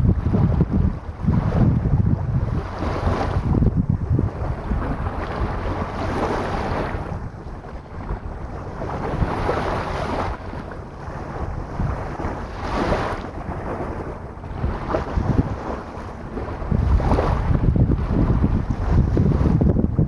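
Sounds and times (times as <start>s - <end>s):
sea waves washing onto beach: 0.0s - 20.0s
wind rumbling on microphone: 0.0s - 20.0s.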